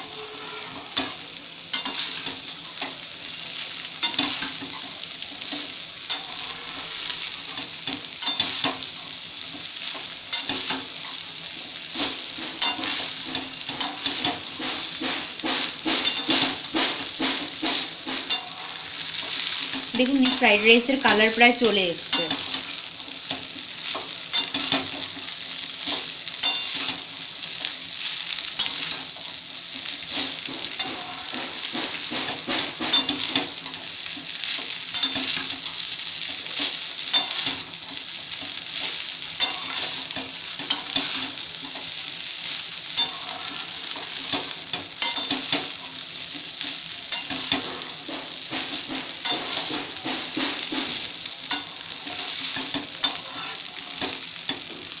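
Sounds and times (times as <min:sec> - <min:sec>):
metal spatula scraping a pan: 0:00.0 - 0:54.8
rice sizzling in a pan: 0:00.0 - 0:55.0.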